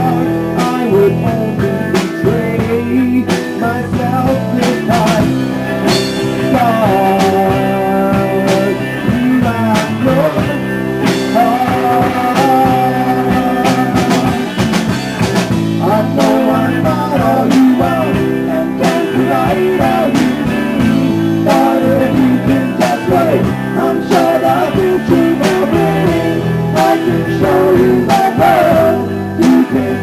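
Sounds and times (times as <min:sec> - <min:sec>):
bending lead melody: 0:00.0 - 0:30.0
rock band playing: 0:00.0 - 0:30.0.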